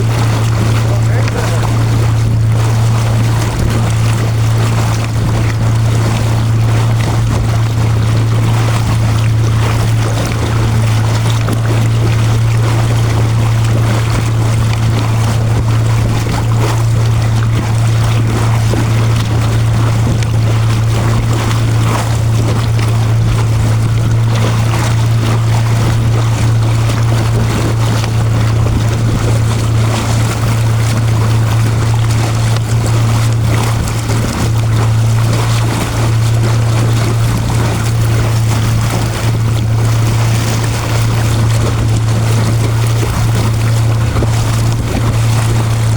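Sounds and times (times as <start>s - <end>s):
boat motor humming: 0.0s - 45.9s
wind: 0.0s - 45.9s.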